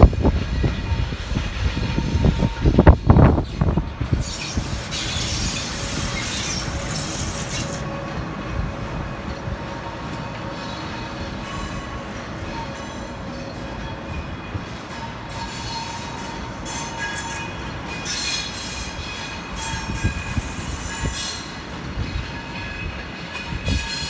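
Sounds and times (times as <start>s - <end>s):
train rumbling: 0.0s - 24.0s
train wheels squealing: 0.5s - 8.1s, 9.9s - 24.0s.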